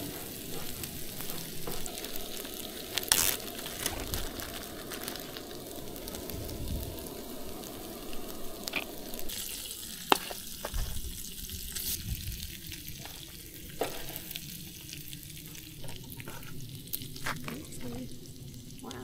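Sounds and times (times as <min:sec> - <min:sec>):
eggs sizzling in a pan: 0:00.0 - 0:19.0.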